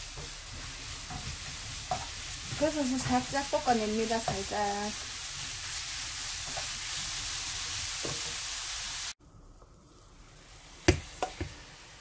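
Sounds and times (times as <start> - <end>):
mushrooms sizzling in frying pan: 0.0 - 12.0.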